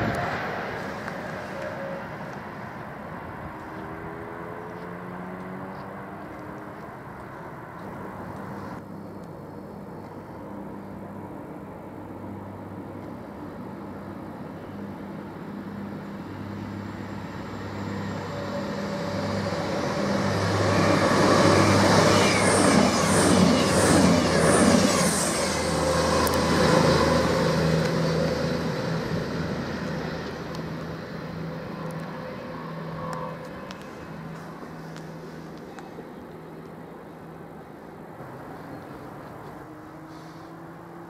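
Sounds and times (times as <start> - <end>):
low train hum: 0.0 - 4.1, 6.2 - 41.0
train passing through station: 0.0 - 41.0.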